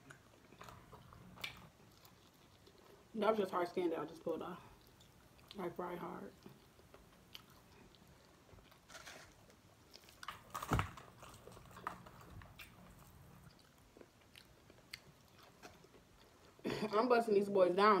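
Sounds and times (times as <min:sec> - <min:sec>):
chewing crispy chicken: 0:00.0 - 0:03.1, 0:04.6 - 0:16.6.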